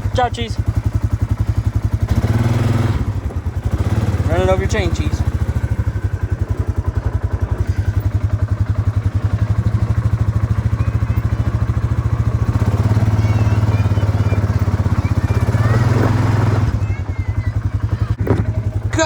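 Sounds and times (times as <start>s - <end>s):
quad bike engine idling: 0.0s - 19.0s.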